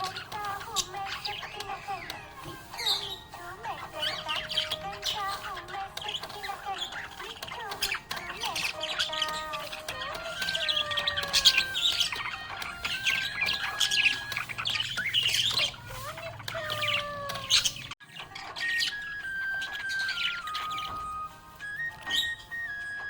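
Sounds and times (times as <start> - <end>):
budgerigars chirping: 0.0 - 23.0.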